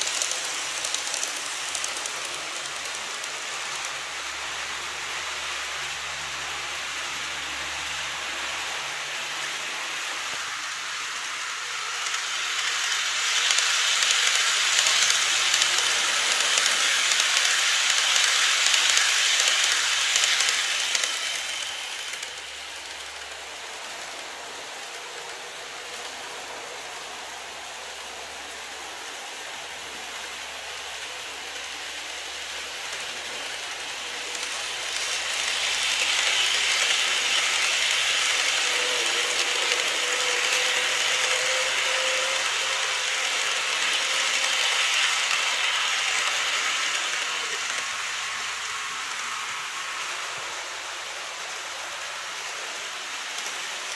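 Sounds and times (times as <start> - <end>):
model train whirring on track: 0.0 - 53.9.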